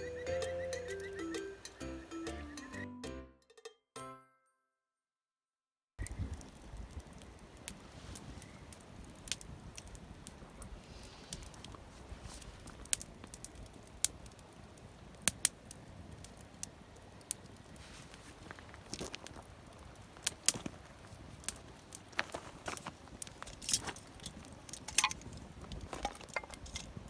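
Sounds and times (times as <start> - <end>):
campfire crackling and popping: 0.0 - 2.7, 6.0 - 27.0.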